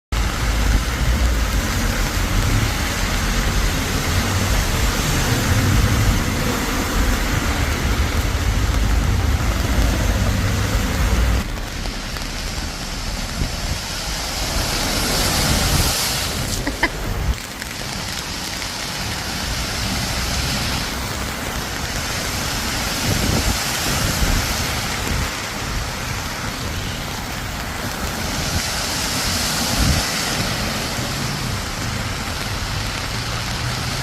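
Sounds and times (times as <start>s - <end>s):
steady rain: 0.1s - 34.0s.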